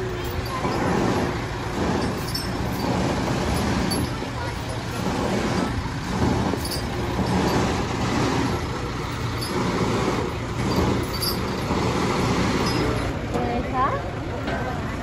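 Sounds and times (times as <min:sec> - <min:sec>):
heavy truck engine rumbling: 0:00.0 - 0:15.0
street noise: 0:00.0 - 0:15.0.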